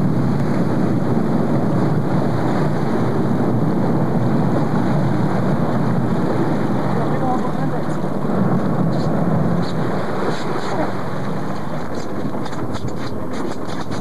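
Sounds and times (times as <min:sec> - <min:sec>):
boat motor running: 0:00.0 - 0:14.0
water spraying off hull: 0:00.0 - 0:14.0
wind buffeting microphone: 0:00.0 - 0:14.0.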